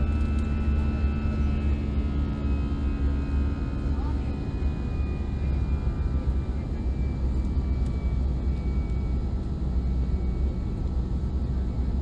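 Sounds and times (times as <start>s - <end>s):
deep rumble of jet engine: 0.0s - 12.0s
faint high engine whine: 0.0s - 12.0s.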